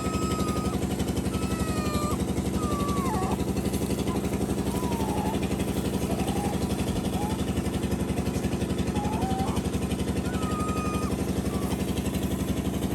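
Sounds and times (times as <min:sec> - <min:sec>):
thin whining calls: 0:00.0 - 0:12.6
small engine idling: 0:00.0 - 0:12.9.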